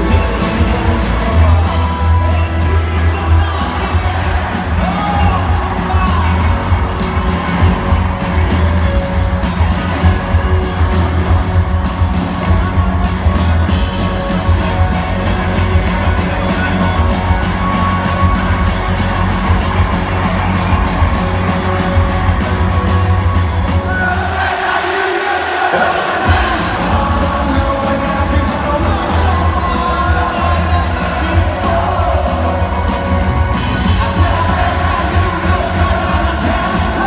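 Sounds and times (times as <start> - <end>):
voices singing and shouting: 0.0 - 22.7, 23.7 - 37.0
rock band playing live: 0.0 - 37.0.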